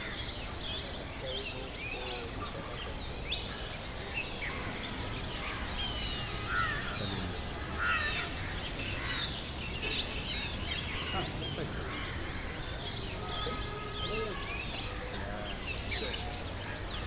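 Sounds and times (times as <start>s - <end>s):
pulsing insect trill: 1.0s - 17.0s.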